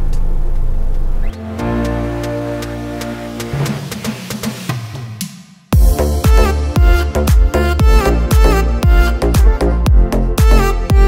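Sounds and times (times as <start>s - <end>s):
light music beat: 0.9s - 11.0s
electronic dance beat: 1.4s - 11.0s.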